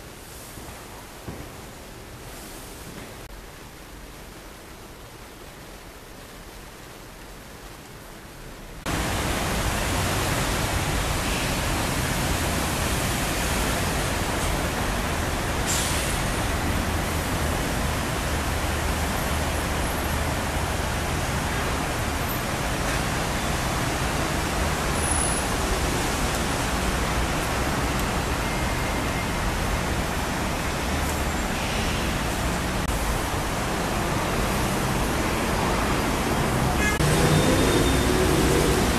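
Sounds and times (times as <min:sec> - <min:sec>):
dense city traffic roar: 0:00.0 - 0:07.6, 0:08.5 - 0:38.9.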